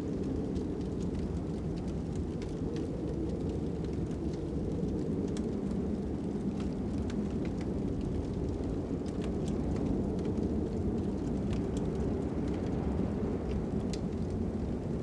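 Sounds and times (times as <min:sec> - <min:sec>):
fire crackling: 0:00.0 - 0:15.0
low wind noise: 0:00.0 - 0:15.0.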